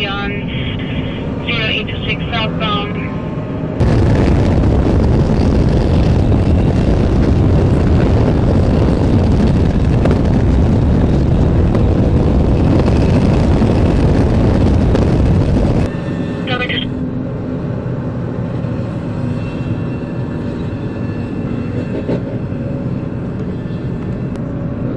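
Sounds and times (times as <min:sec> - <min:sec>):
wind rush: 0:00.0 - 0:24.9.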